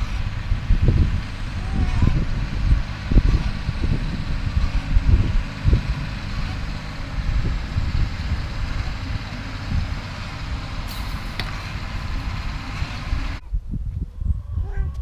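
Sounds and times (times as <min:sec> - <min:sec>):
tractor engine rumbling: 0:00.0 - 0:13.4.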